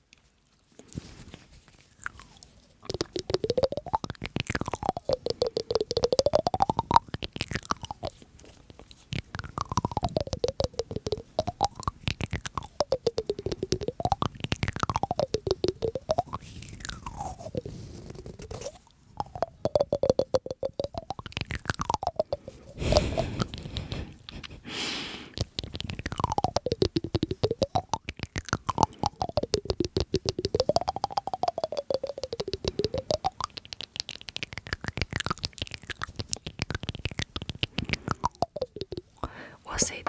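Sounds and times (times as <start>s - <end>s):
crunchy chewing: 0.0s - 19.7s, 20.4s - 39.4s.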